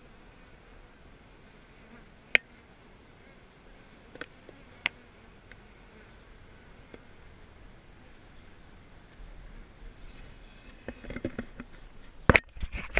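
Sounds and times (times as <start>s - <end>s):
honey bees buzzing: 0.0s - 11.7s.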